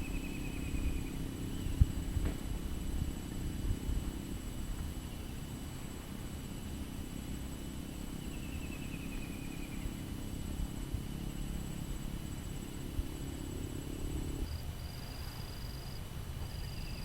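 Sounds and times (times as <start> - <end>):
steady low outdoor noise: 0.0 - 17.0.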